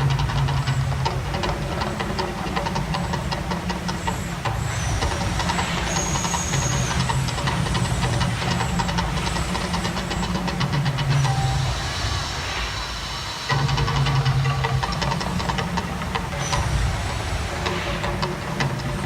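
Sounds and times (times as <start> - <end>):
rapid crackling: 0.0 - 19.0
hissing: 1.5 - 19.0.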